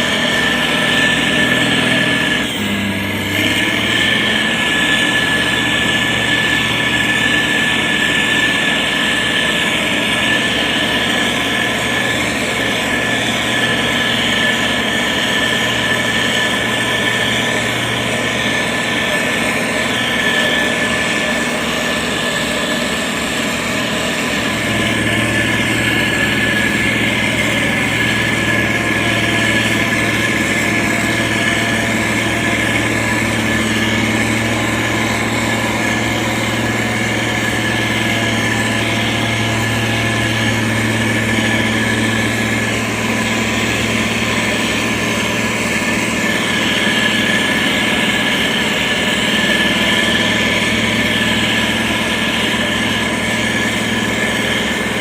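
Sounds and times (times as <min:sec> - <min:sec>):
diesel engine running: 0:00.0 - 0:55.0
high whine: 0:00.0 - 0:55.0.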